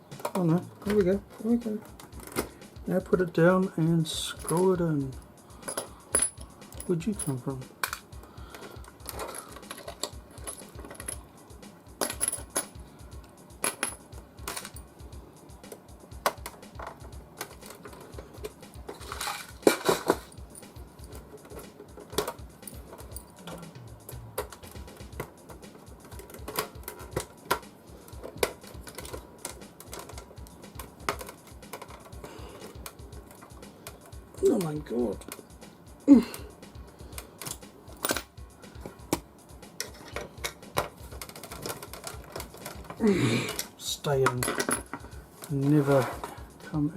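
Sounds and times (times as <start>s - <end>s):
screws clinking on metal case: 0.2s - 2.6s, 4.3s - 11.2s, 12.0s - 12.8s, 13.6s - 14.9s, 15.7s - 23.4s, 24.1s - 35.5s, 37.1s - 39.2s, 39.8s - 46.4s.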